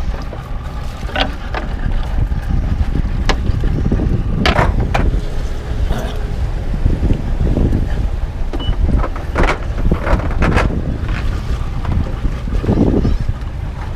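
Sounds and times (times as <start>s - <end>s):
water slapping boat hull: 0.0s - 13.9s
wind buffeting microphone: 0.0s - 13.9s.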